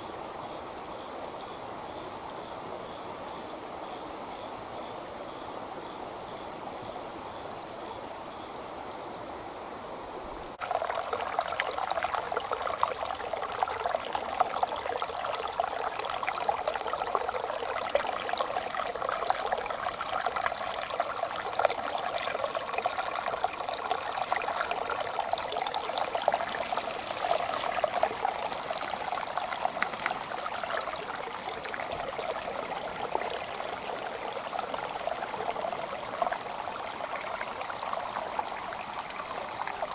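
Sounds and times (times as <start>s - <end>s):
creek water trickling: 0.0s - 39.9s.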